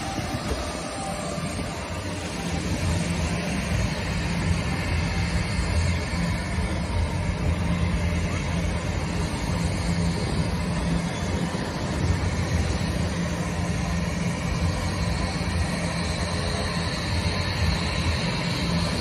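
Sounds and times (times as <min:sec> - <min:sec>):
jet engines humming steadily: 0:00.0 - 0:19.0.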